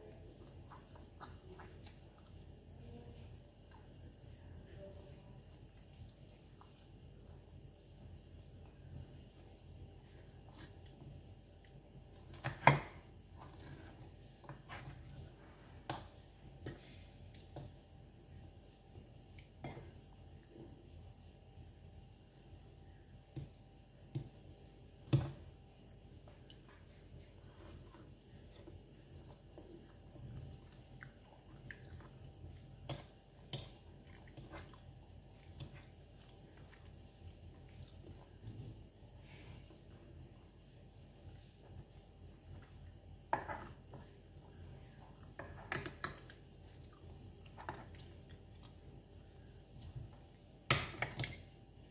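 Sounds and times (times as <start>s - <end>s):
soft chewing: 0.0s - 51.9s.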